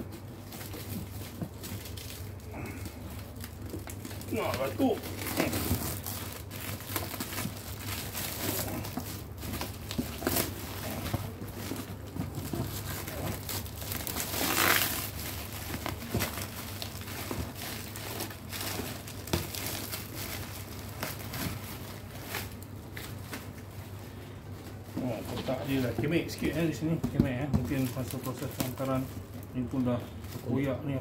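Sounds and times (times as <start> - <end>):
plastic bag crinkling and tearing: 0.0 - 31.0.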